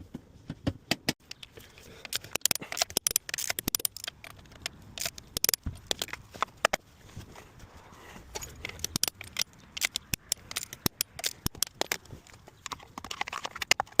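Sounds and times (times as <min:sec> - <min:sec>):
metallic clicks and clinks: 0:01.2 - 0:06.8, 0:08.3 - 0:14.0.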